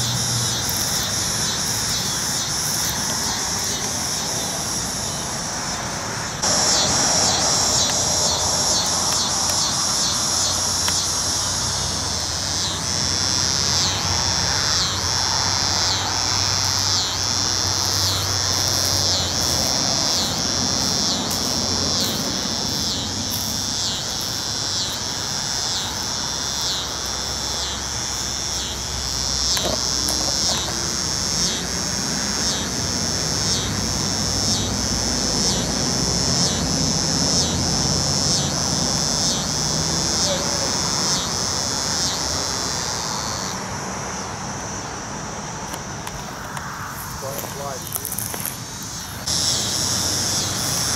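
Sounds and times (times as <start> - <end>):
cicadas buzzing: 0.0 - 50.9.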